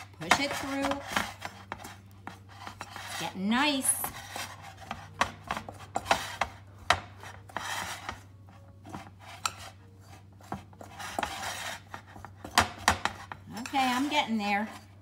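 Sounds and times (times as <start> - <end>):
fork scraping dough in bowl: 0.0 - 15.0.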